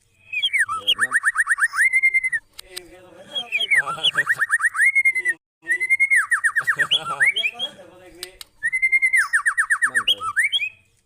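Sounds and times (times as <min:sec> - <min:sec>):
songbird whistling song: 0:00.1 - 0:02.5, 0:03.3 - 0:07.8, 0:08.6 - 0:11.0.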